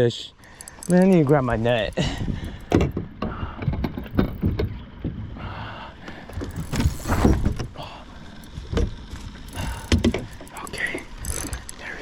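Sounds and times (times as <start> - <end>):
gear knocking and clunking: 0.4 - 5.4, 6.0 - 12.0.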